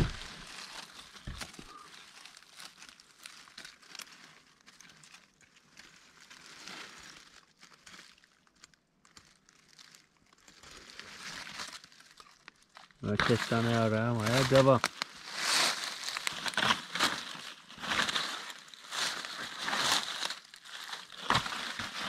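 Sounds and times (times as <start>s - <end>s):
dry leaves rustling and crackling: 0.0s - 22.0s.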